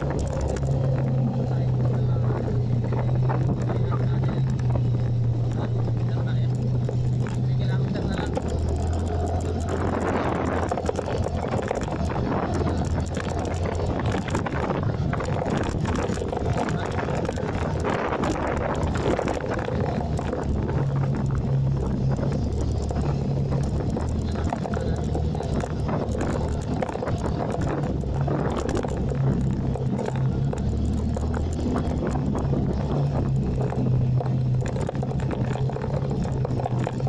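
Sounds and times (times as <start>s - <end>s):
motorcycle engine hum: 0.0s - 37.0s
rushing wind noise: 0.0s - 37.0s.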